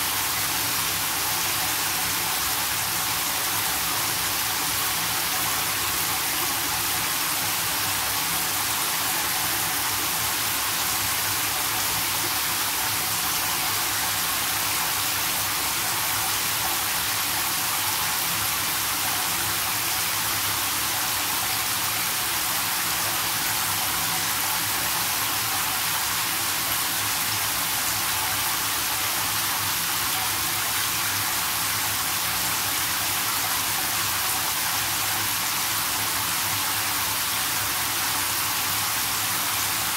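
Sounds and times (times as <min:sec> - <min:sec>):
shower water spraying into bathtub: 0:00.0 - 0:39.9.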